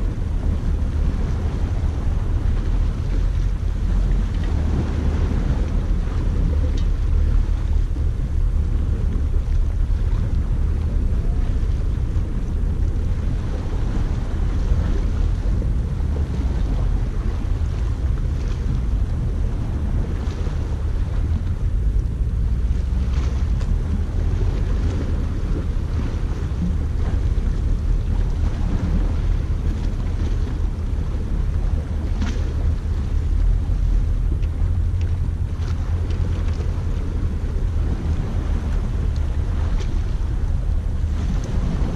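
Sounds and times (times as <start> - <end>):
sea waves washing: 0.0 - 41.9
wind buffeting microphone: 0.0 - 41.9.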